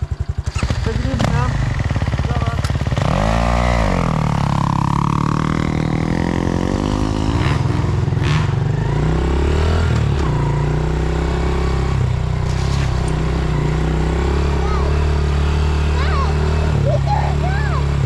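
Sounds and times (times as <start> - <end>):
dirt bike idling: 0.0 - 18.0
dirt bike revving and accelerating: 0.3 - 18.0.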